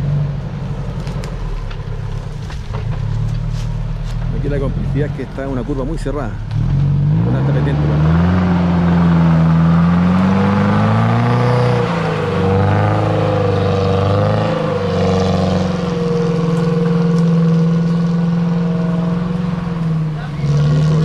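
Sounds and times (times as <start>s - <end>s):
engine revving under load: 1.0s - 21.0s.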